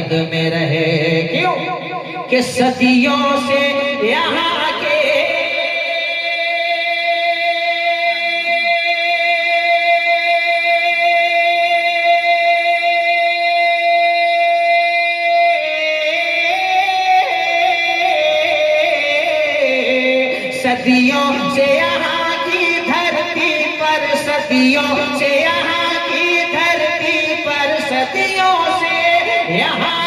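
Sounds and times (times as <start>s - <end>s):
person singing: 0.0s - 30.0s.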